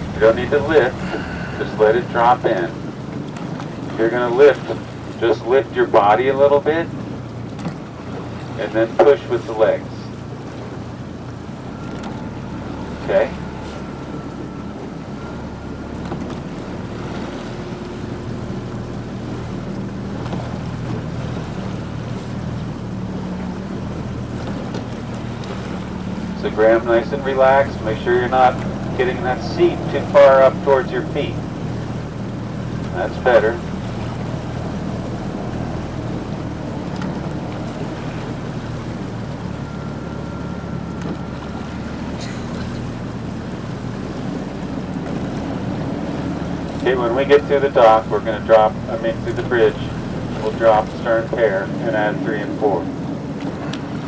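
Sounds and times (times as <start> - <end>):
boat engine hum: 0.0 - 54.0.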